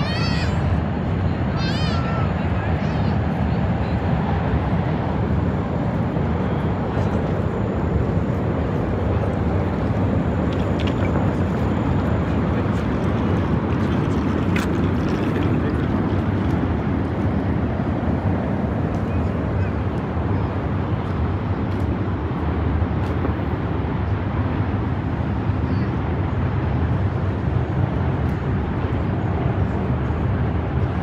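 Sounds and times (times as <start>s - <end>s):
city ambience rumble: 0.0s - 31.0s.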